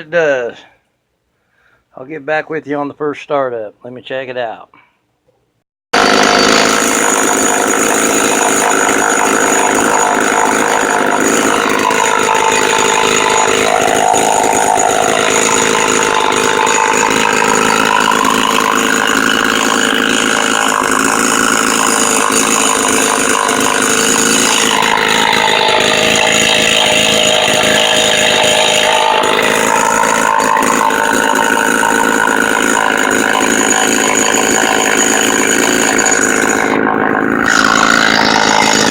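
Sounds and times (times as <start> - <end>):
chainsaw engine running: 6.0 - 38.9.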